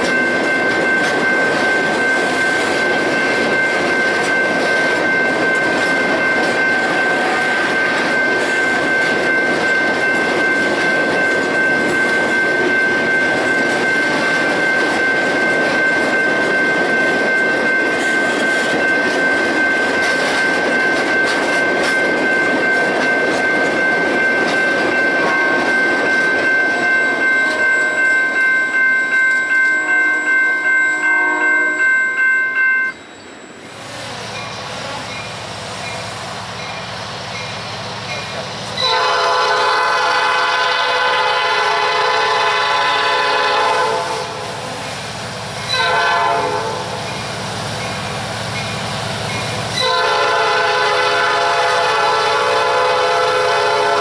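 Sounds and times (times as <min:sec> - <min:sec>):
train wheel clatter: 0:00.0 - 0:30.7, 0:33.8 - 0:54.0
train cars rumbling: 0:00.0 - 0:54.0.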